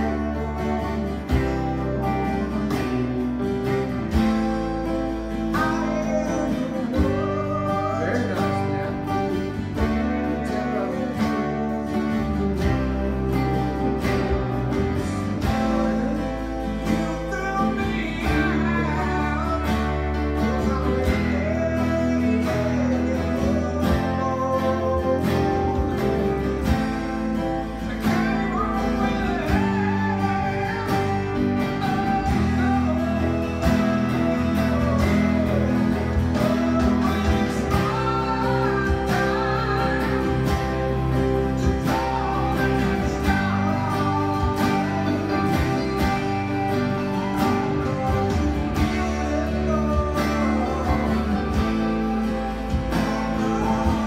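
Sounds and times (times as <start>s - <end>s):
electric guitar strumming chords: 0.0s - 54.0s
person singing: 0.0s - 54.0s.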